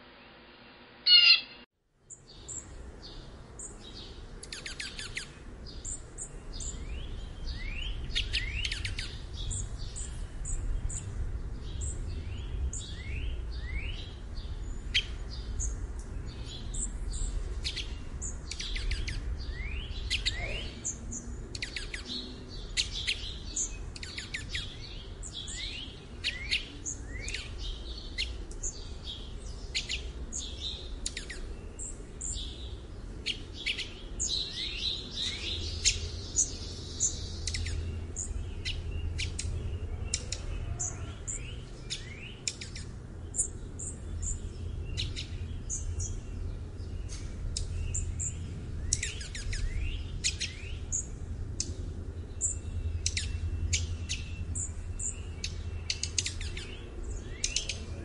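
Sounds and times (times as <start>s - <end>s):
bird chip calls: 1.0s - 2.7s, 3.6s - 10.1s, 16.7s - 32.5s, 33.2s - 46.2s, 47.1s - 51.7s, 52.4s - 57.9s
low steady rumble: 2.3s - 58.0s.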